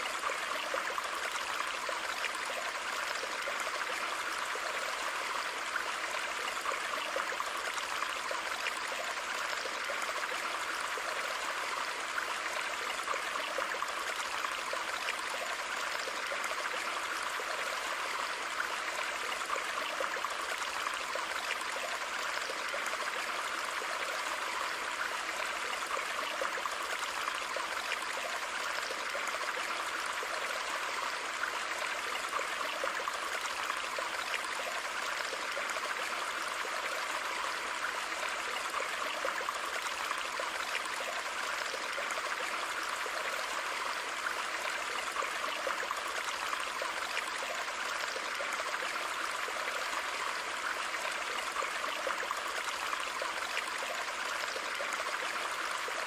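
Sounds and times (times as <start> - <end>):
water running in a pond: 0.0 - 56.0.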